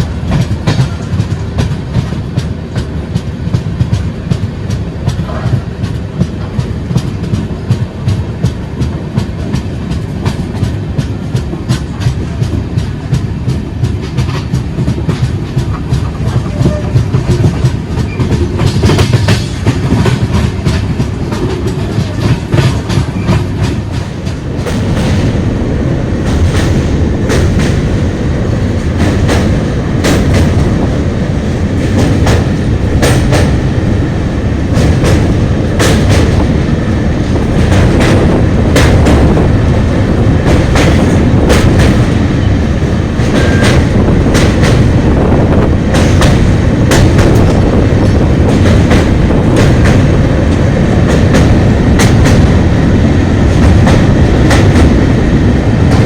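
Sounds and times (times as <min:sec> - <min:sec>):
train wheels rumbling on rails: 0:00.0 - 0:56.0
sharp rail clacks: 0:00.3 - 0:56.0.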